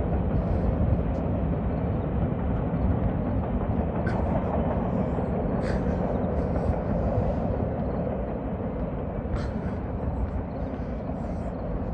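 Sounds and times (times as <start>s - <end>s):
freight train rumbling on rails: 0.0s - 11.9s.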